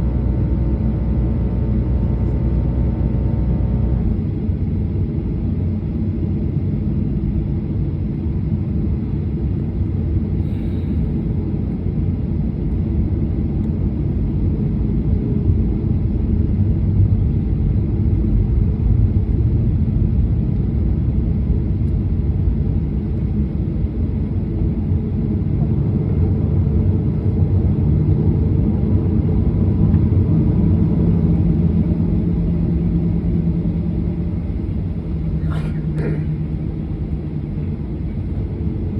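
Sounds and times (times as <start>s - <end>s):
jet engine cabin rumble: 0.0s - 38.9s
low steady hum: 0.0s - 38.9s.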